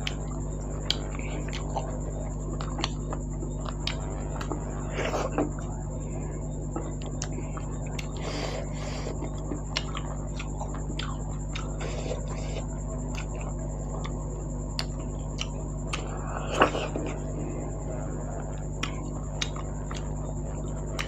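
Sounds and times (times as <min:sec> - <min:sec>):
person chewing food: 0:00.0 - 0:21.0
steady low hum: 0:00.0 - 0:21.0.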